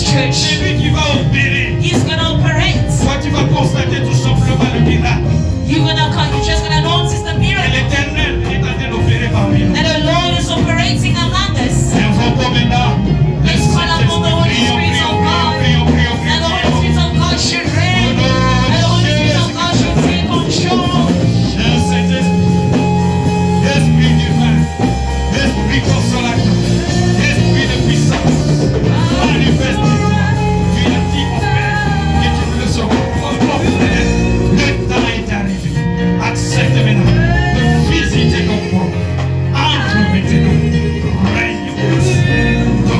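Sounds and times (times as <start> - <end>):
voices singing: 0.0 - 42.9
worship band playing: 0.0 - 42.9.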